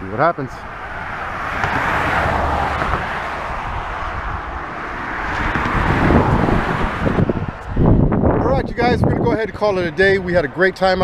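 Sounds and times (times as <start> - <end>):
traffic passing: 0.0 - 11.0.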